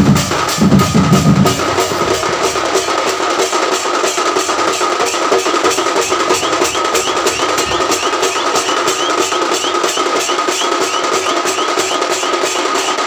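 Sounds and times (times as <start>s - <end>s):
deep drum strokes: 0.0s - 11.4s
drum band playing loudly: 0.0s - 13.0s.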